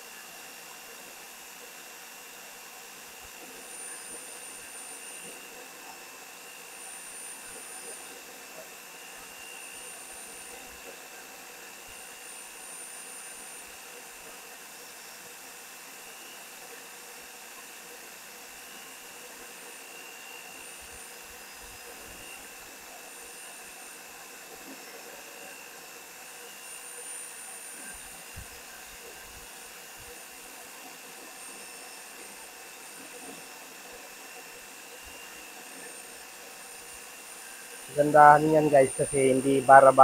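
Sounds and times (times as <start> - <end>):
thin high whine: 0.0 - 40.0.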